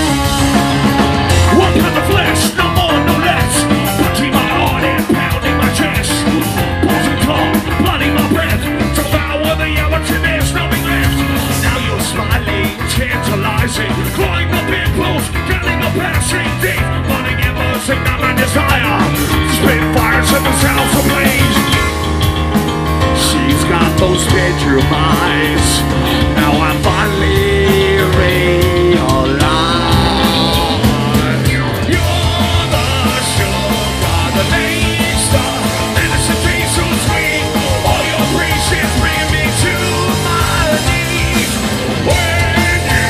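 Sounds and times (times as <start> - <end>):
bass guitar: 0.0 - 43.0
drum kit: 0.0 - 43.0
electric guitar: 0.0 - 43.0.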